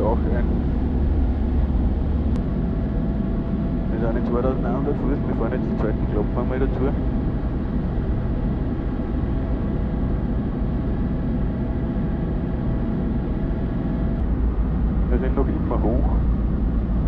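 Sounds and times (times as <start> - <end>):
light aircraft engine and propeller: 0.0 - 17.0.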